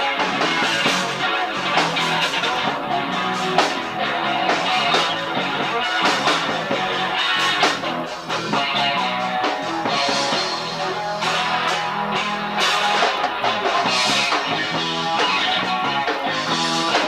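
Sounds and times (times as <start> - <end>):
bass guitar: 0.0 - 17.0
drums: 0.0 - 17.0
electric guitar: 0.0 - 17.0.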